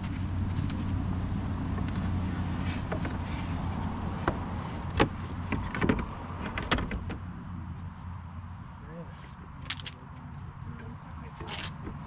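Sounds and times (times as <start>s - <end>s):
car humming: 0.0s - 12.0s.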